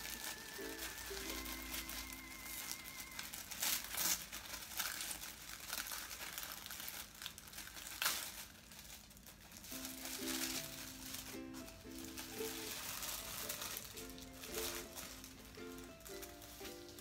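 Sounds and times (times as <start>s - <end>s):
tissue paper rustling and crinkling: 0.0s - 17.0s.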